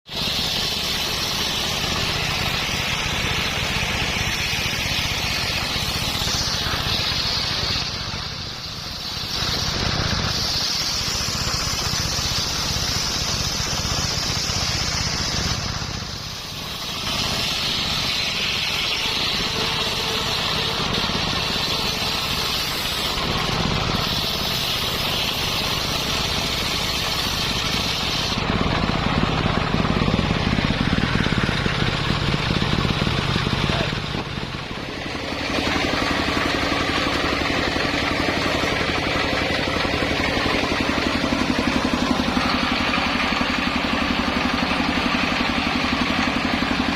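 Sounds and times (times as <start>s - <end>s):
engine drone: 0.0s - 46.9s
saw blade whining through wood: 0.0s - 46.9s.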